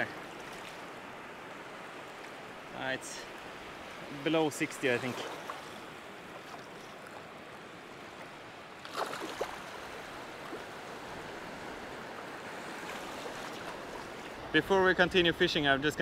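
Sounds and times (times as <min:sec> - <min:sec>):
water splashes: 0:00.0 - 0:14.4
waves lapping on stony shore: 0:00.0 - 0:14.5.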